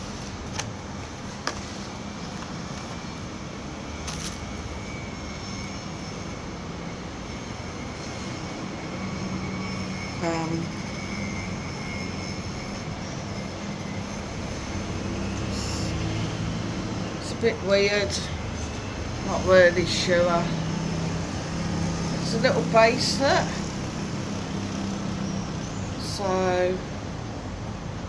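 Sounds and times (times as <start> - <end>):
engine noise: 0.0 - 28.0
faint high whine: 0.0 - 28.0.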